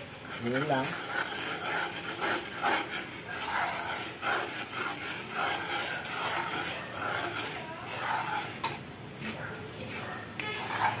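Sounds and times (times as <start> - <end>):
metal spatula scraping a wok: 0.0 - 11.0.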